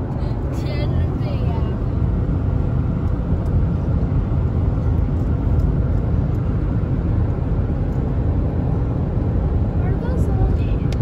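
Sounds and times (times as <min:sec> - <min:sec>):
road and engine rumble inside car: 0:00.0 - 0:11.0.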